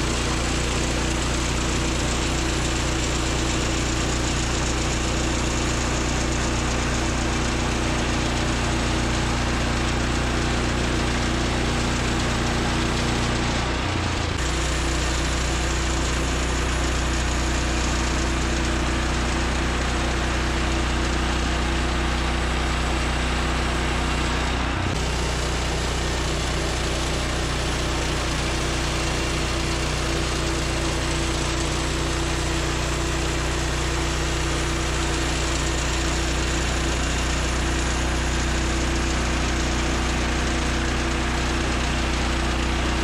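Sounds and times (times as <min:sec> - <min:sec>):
gas engine running: 0:00.0 - 0:43.0.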